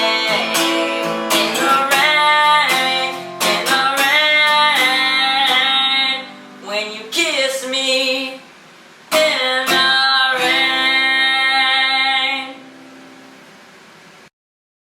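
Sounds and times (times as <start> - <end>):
acoustic guitar strumming chords: 0.0 - 14.1.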